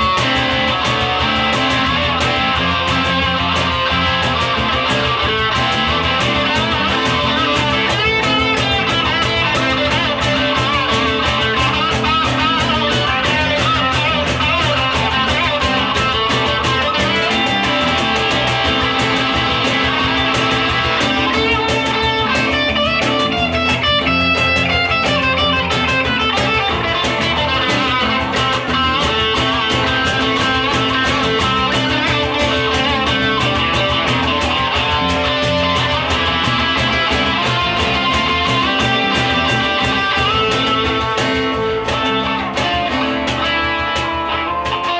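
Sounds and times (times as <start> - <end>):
live band playing instrumental: 0.0 - 44.9.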